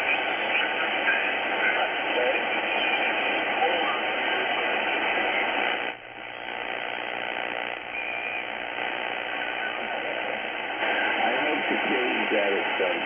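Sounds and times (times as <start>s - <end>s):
shortwave radio static: 0.0s - 13.0s.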